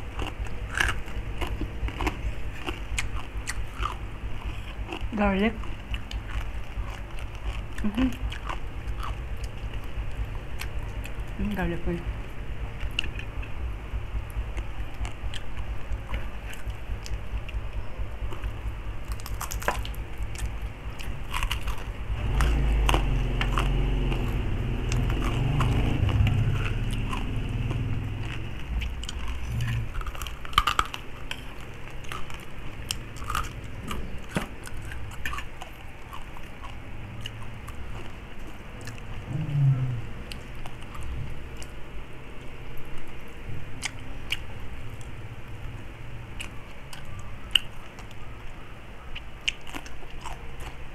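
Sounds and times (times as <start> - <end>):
biting and chewing crispy food: 0.0 - 50.9.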